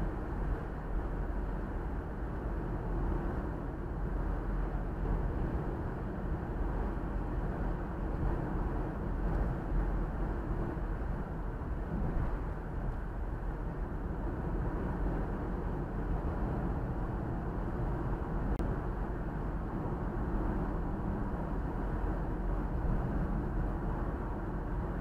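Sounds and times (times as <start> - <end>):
car road noise: 0.0 - 25.0.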